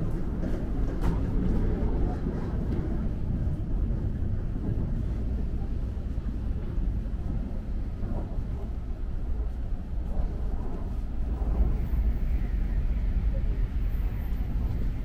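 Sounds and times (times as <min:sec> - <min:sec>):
train rumbling heard inside car: 0:00.0 - 0:15.0.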